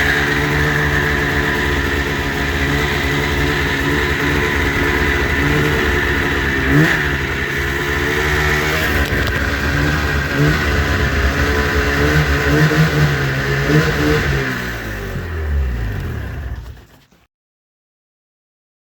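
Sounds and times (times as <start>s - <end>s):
snowmobile engine revving: 0.0s - 17.1s.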